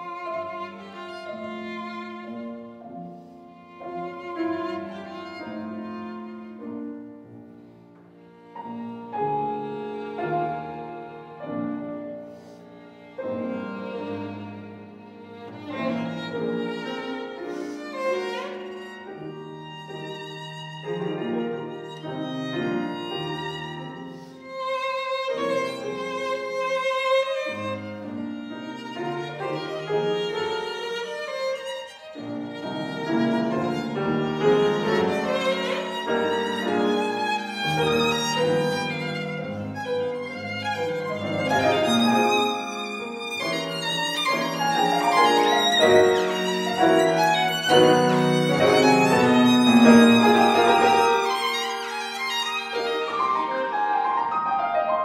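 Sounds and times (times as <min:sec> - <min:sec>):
piano accompaniment: 0:00.0 - 0:55.0
violin melody: 0:00.0 - 0:55.0.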